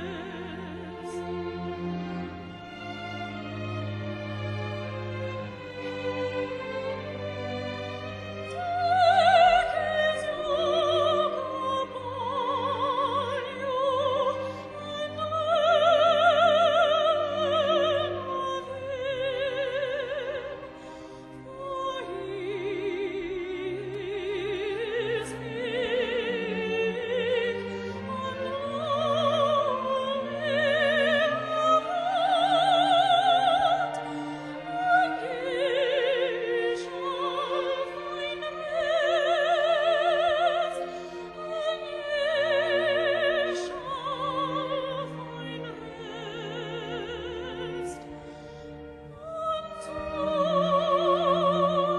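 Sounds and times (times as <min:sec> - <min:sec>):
classical solo singing: 0:00.0 - 0:03.8, 0:04.6 - 0:51.9
string orchestra: 0:00.0 - 0:51.9.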